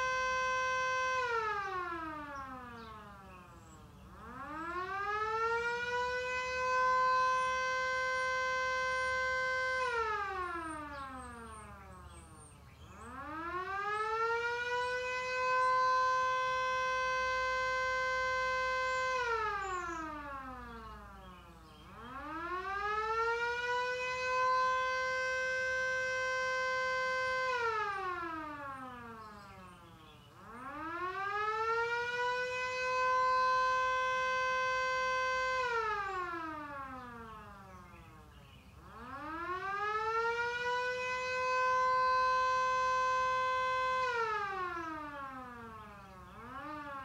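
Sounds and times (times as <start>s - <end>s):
siren winding up and down: 0.0s - 3.2s, 4.2s - 11.8s, 13.0s - 20.8s, 21.9s - 29.4s, 30.4s - 37.3s, 38.9s - 47.0s.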